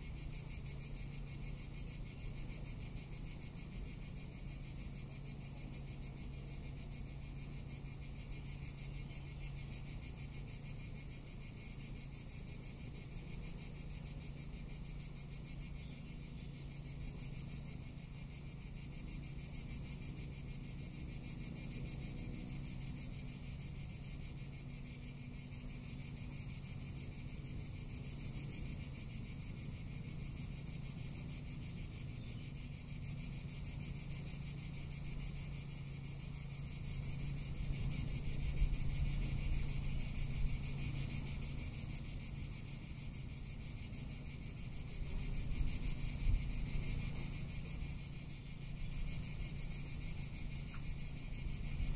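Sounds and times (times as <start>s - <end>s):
cicadas buzzing: 0.0s - 51.9s.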